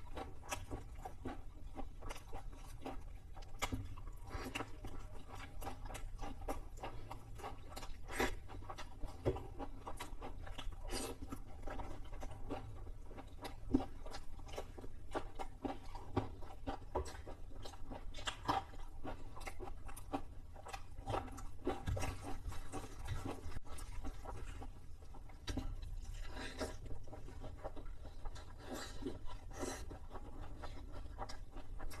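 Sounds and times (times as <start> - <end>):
chewing crispy fried chicken: 0.0 - 32.0.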